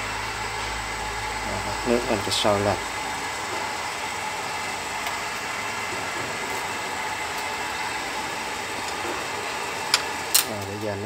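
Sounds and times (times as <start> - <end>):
gas flame hissing: 0.0 - 11.0
water boiling in a pot: 0.0 - 11.0.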